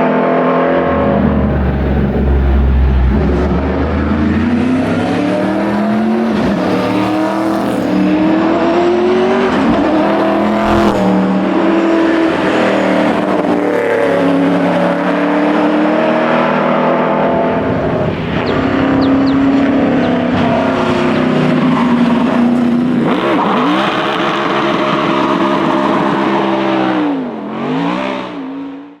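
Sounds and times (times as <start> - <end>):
rally car engine accelerating: 0.0 - 29.0.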